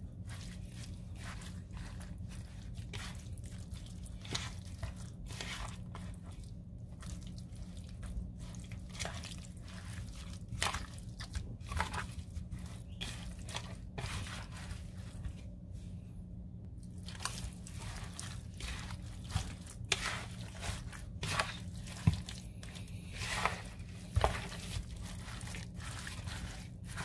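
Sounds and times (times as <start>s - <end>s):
hands squelching raw chicken: 0.0s - 15.7s, 16.6s - 27.0s
steady low hum: 0.0s - 27.0s.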